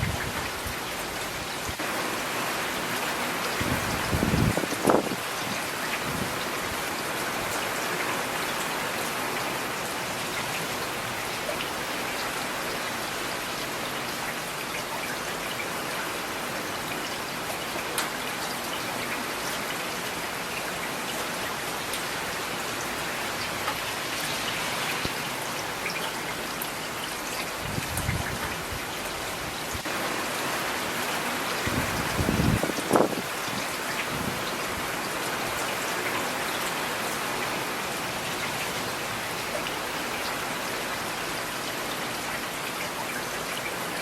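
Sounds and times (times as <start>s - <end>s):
rain drops clicking on a surface: 0.0s - 44.0s.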